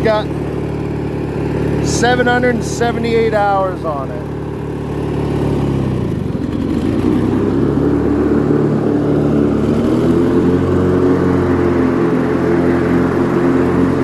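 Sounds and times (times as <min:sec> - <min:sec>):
lawn tractor engine mowing grass: 0:00.0 - 0:14.0.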